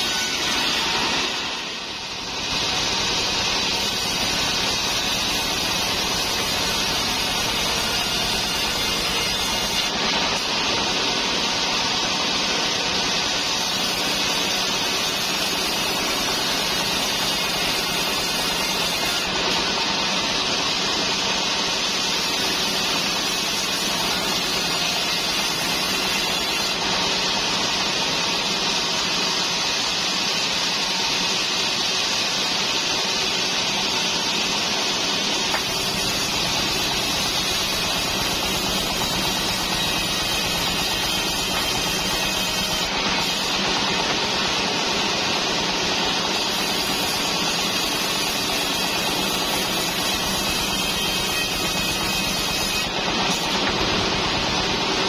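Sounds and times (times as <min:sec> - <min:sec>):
band saw sawing timber: 0:00.0 - 0:55.0.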